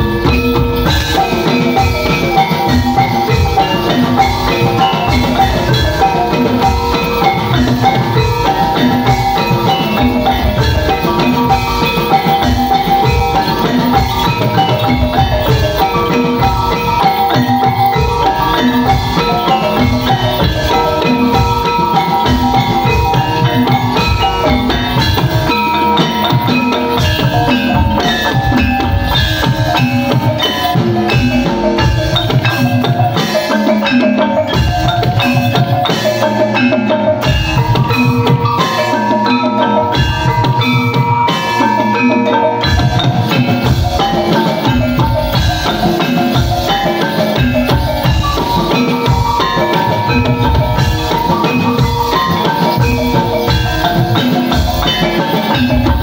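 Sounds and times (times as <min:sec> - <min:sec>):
rhythmic drum strokes: 0:00.0 - 0:56.0
tuned metal percussion melody: 0:00.0 - 0:56.0.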